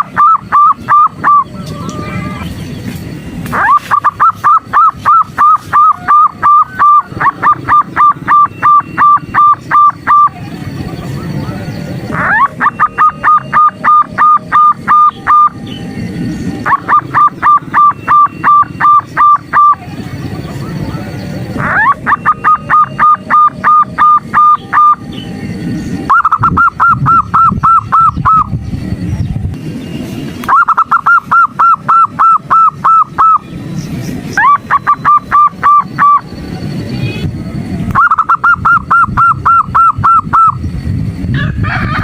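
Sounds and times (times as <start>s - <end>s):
dove calling repeated notes: 0.0s - 29.4s, 30.4s - 40.8s.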